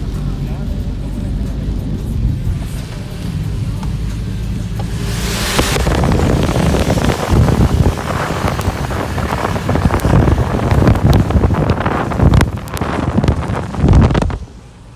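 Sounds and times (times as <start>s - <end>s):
heavy rain: 0.0s - 14.2s
wind buffeting microphone: 1.8s - 14.6s.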